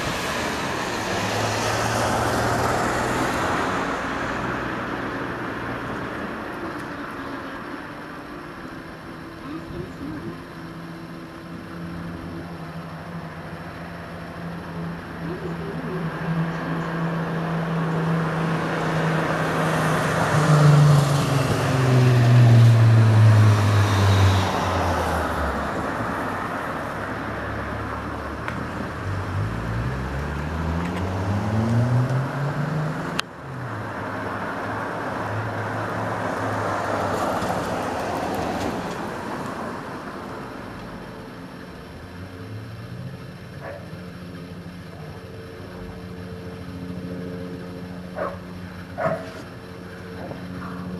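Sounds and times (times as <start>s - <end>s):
engine passing by: 0.0s - 7.8s, 11.7s - 50.9s.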